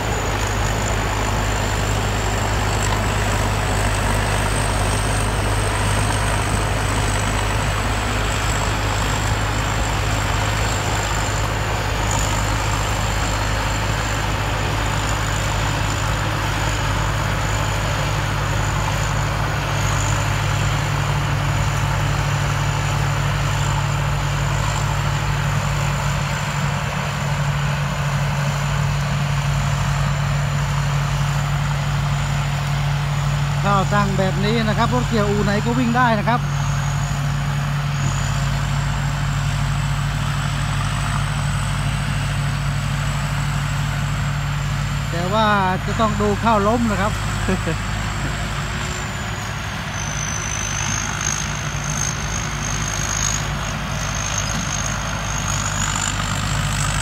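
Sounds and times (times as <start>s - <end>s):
combine harvester droning: 0.0s - 57.0s
thin high whine: 0.0s - 57.0s.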